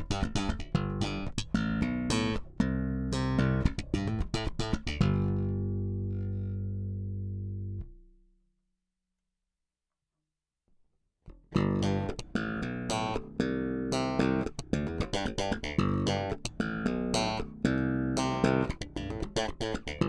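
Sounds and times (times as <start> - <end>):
electric bass plucked notes: 0.0 - 8.1, 11.3 - 20.0.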